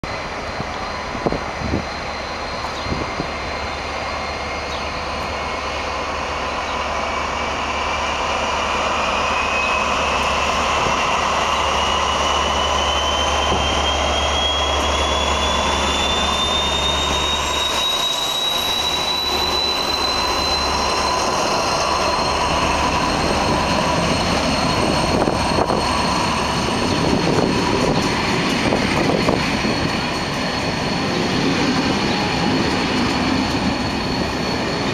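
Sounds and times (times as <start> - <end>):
locomotive engine drone: 0.0 - 34.9
rising whine: 0.4 - 34.9.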